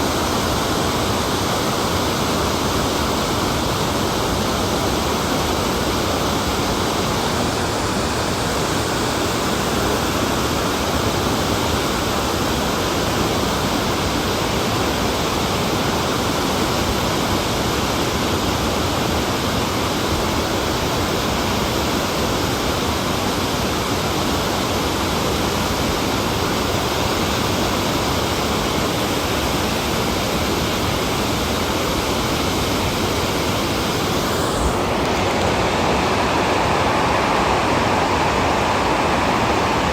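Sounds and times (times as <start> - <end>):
water rushing over a dam: 0.0 - 39.9.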